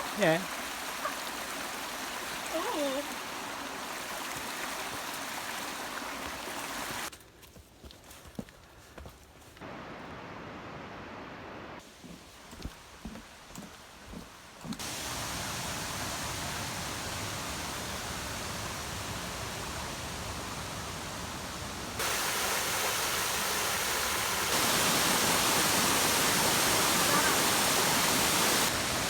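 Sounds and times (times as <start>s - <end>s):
running water rushing: 0.0s - 7.1s, 9.6s - 29.0s.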